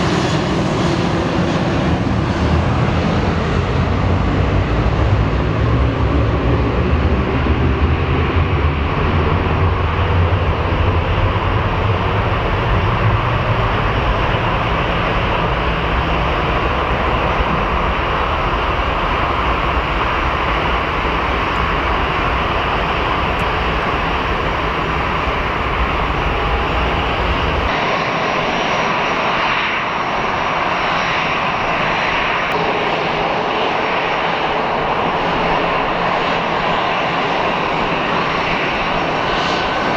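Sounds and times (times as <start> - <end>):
jet engine whine: 0.0 - 39.9
jet engines rumbling: 0.0 - 39.9.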